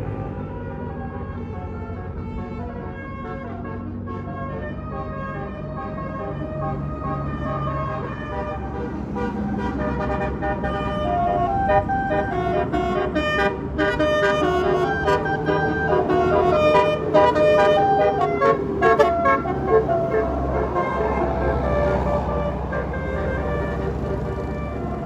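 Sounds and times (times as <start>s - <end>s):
low rumble of bus: 0.0s - 25.0s
musical air horn melody: 2.4s - 24.0s.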